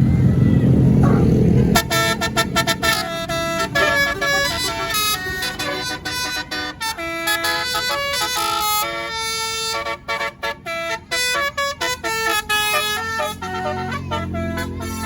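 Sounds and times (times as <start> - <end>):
bus engine rumble: 0.0 - 15.0
musical bus horn tooting melody: 1.0 - 15.0.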